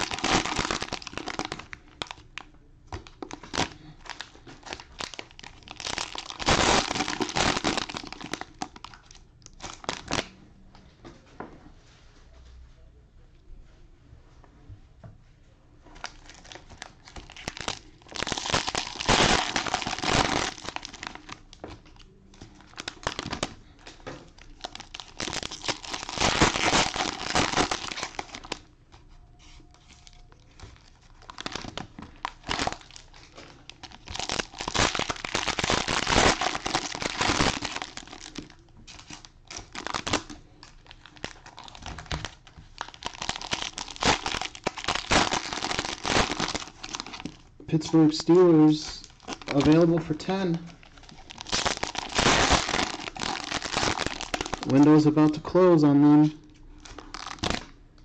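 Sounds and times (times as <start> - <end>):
cellophane wrappers crinkling and tearing: 0.0 - 10.3, 16.0 - 57.8.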